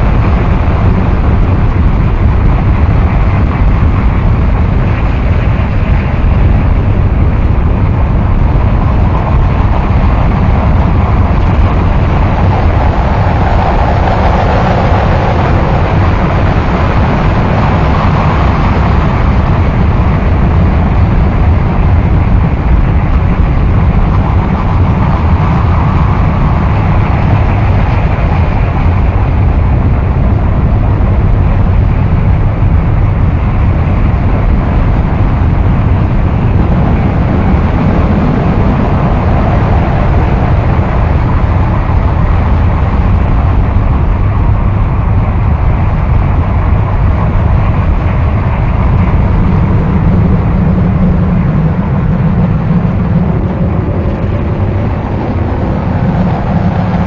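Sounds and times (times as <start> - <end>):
dense harsh noise drone: 0.0 - 57.0.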